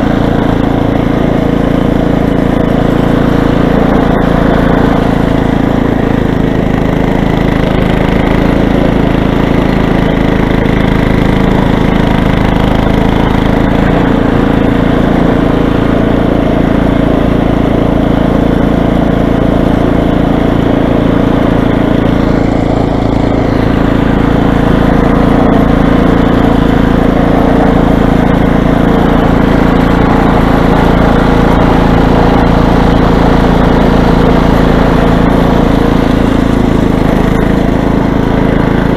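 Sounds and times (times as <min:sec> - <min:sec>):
snow blower engine running: 0:00.0 - 0:38.9.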